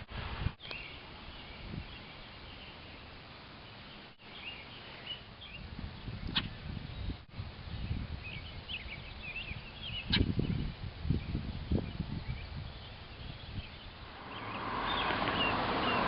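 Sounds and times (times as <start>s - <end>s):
birds chirping: 0.6s - 16.0s.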